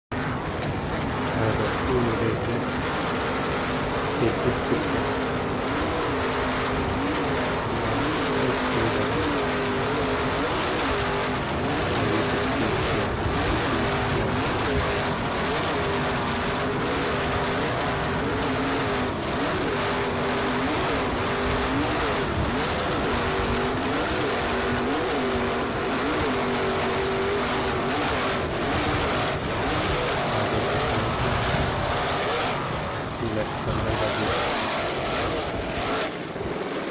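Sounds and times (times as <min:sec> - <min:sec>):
steady rushing noise: 0:00.1 - 0:36.9.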